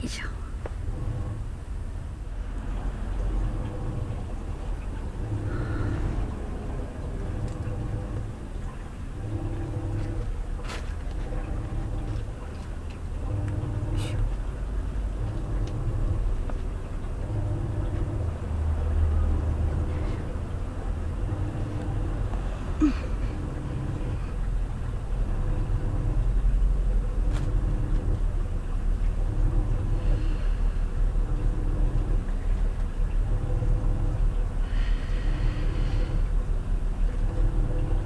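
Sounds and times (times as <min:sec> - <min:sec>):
washing machine churning: 0:00.7 - 0:38.0.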